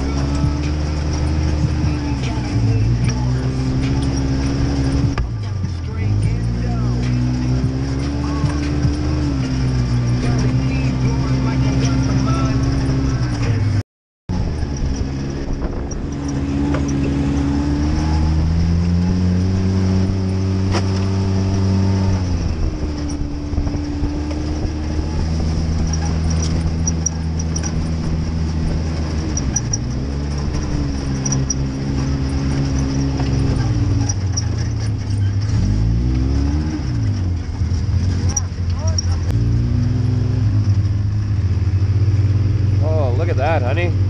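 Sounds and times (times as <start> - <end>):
utility vehicle engine revving: 0.0 - 44.0.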